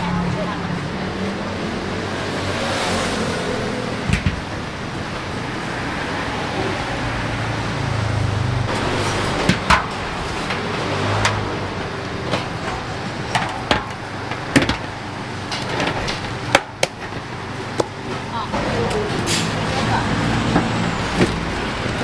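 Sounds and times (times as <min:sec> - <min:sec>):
road traffic hum: 0:00.0 - 0:22.0.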